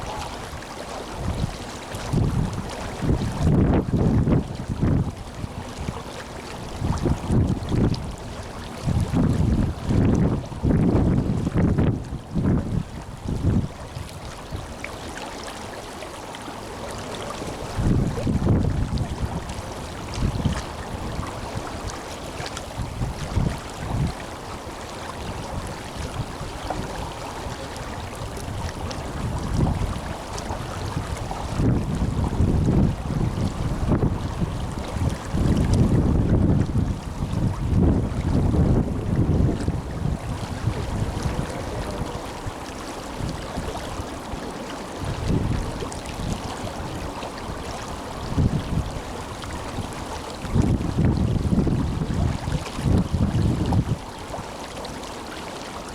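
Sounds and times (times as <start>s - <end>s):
wind buffeting microphone: 0.0s - 14.8s, 17.3s - 54.3s
river water rushing: 0.0s - 55.9s.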